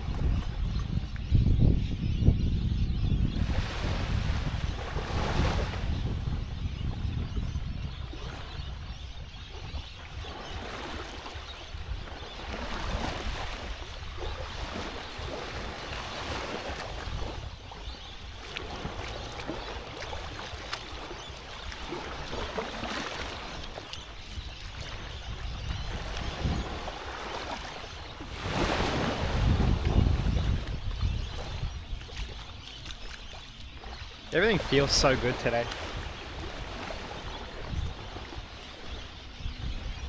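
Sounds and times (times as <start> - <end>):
wind buffeting microphone: 0.0 - 40.0
small waves lapping on sand: 3.3 - 6.6, 7.4 - 40.0.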